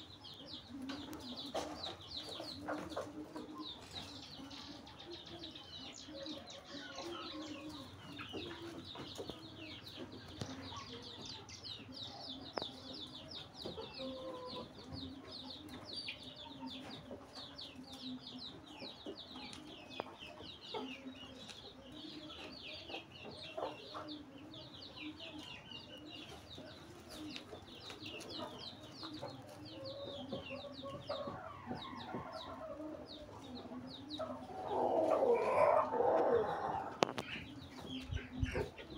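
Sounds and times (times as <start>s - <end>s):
chickens clucking: 0.0s - 38.9s
small birds chirping: 0.0s - 38.9s.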